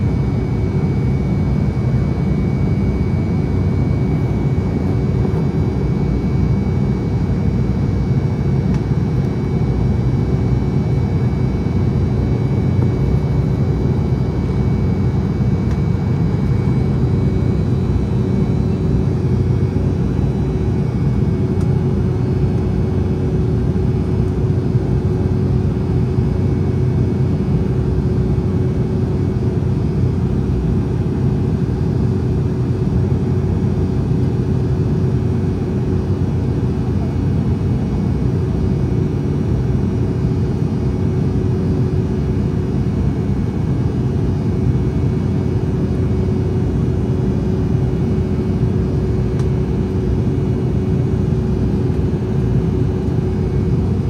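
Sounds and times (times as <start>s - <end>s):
constant hum: 0.0s - 54.0s
jet engines rumbling: 0.0s - 54.0s.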